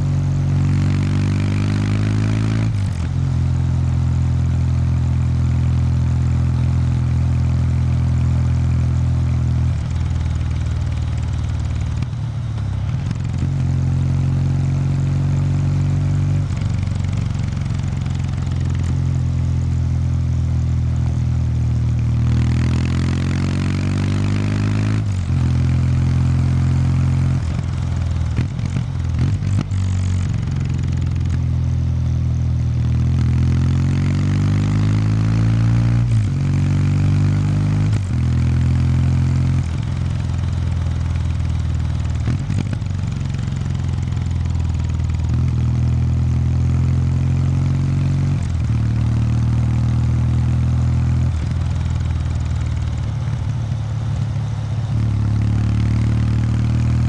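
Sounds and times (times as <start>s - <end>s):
motorcycle engine exhaust note: 0.0s - 57.0s.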